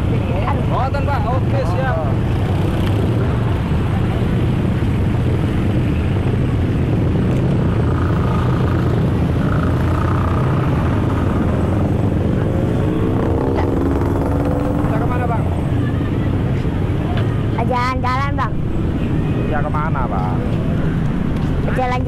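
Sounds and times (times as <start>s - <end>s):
engine running: 0.0s - 19.4s.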